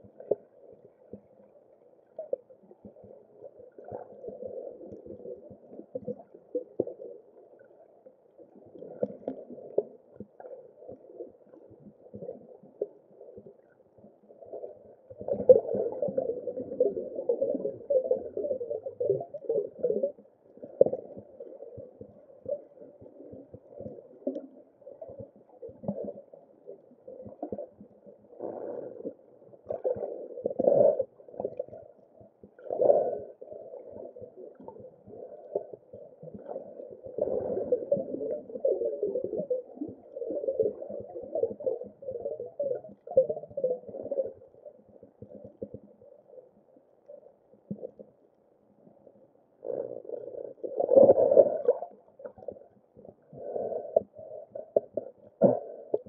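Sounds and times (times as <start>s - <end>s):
muffled underwater gurgling: 0.0s - 48.1s, 49.6s - 56.0s.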